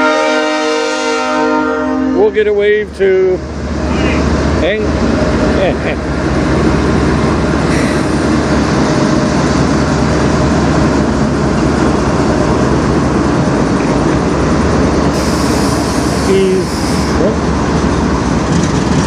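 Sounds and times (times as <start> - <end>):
diesel locomotives rumbling past: 0.0 - 19.0.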